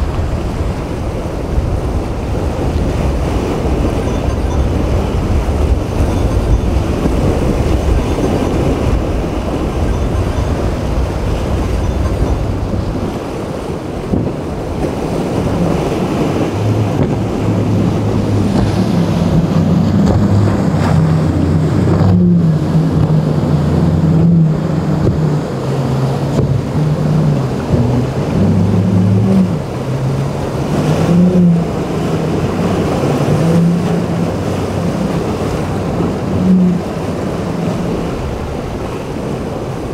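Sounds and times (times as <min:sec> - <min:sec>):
boat engines running: 0:00.0 - 0:39.9
waves washing: 0:00.0 - 0:39.9
wind rumble on microphone: 0:00.0 - 0:39.9.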